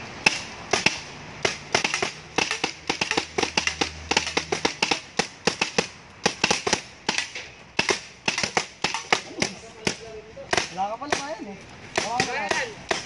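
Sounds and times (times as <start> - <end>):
paintball markers firing: 0.2 - 13.0.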